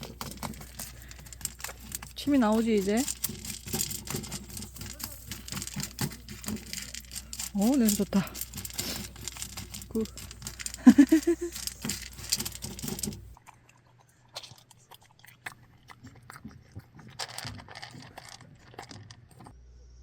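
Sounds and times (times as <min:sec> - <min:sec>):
crunchy chewing: 0:00.0 - 0:19.6
background noise: 0:00.0 - 0:20.0.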